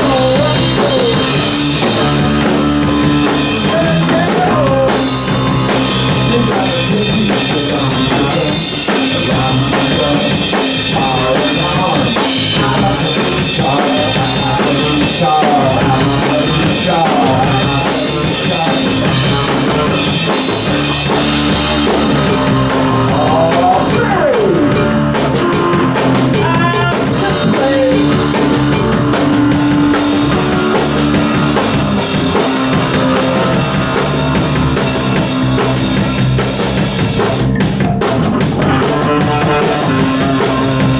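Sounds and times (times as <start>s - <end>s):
bass drum thumping: 0.0s - 40.9s
rock band playing: 0.0s - 40.9s.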